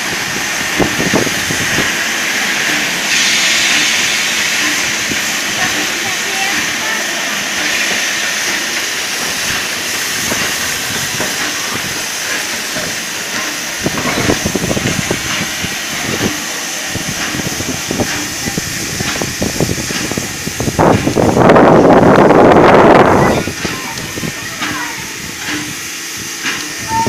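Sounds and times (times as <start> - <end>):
steam locomotive hissing: 0.0 - 27.0.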